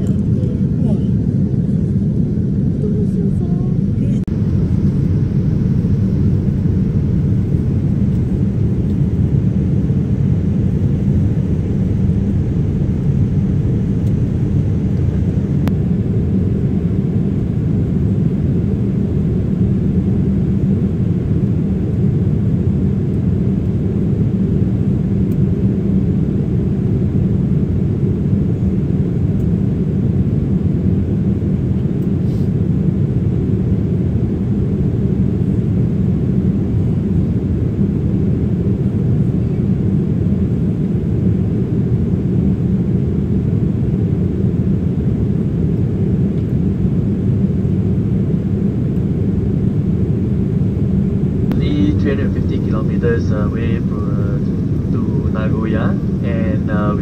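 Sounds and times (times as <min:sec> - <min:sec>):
airliner cabin noise: 0:00.0 - 0:57.0.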